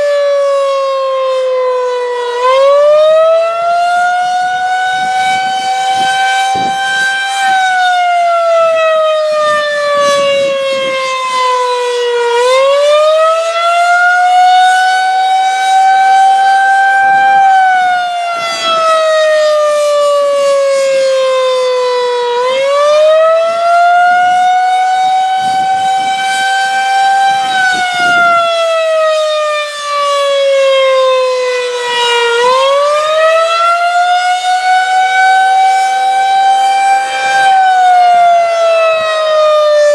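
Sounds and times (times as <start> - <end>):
wailing warning siren: 0.0 - 39.9.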